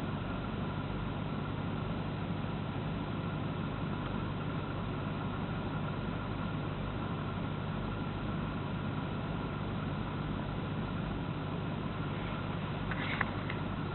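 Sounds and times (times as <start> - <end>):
engine idling with misfire: 0.0 - 13.9.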